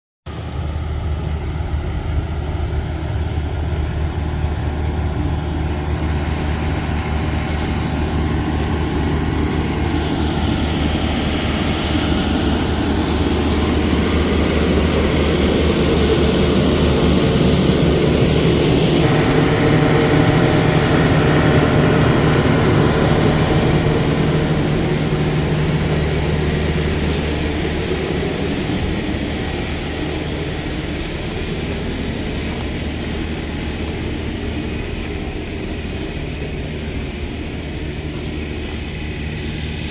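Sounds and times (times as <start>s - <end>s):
truck diesel engine idling: 0.3s - 39.9s.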